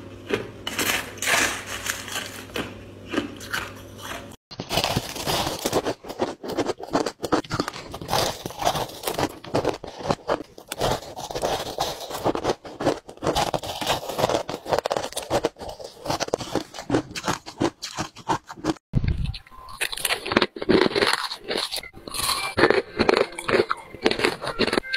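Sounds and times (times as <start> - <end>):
crunching ice: 0.2 - 18.8, 19.7 - 24.9.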